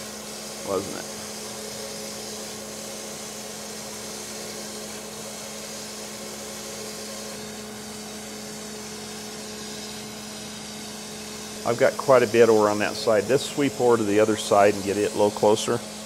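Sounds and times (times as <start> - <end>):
grinding machine running: 0.0 - 16.0.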